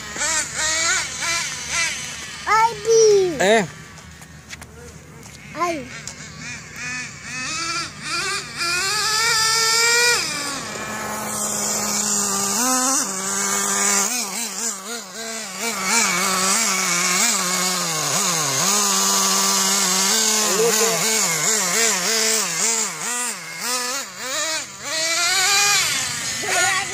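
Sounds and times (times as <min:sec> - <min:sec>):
small two-stroke engine revving: 0:00.0 - 0:26.9.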